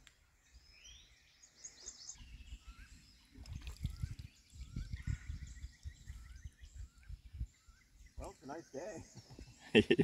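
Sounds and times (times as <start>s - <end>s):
faint birdsong chirps and whistles: 0.0s - 10.0s.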